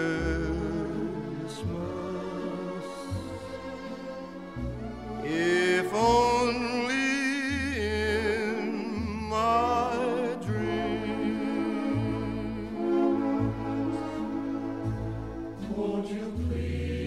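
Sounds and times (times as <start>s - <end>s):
slow christmas song with orchestra: 0.0s - 17.0s.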